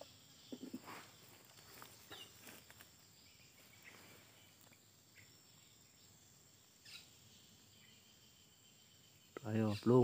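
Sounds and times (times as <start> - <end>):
high-pitched insect chirring: 0.0 - 10.0.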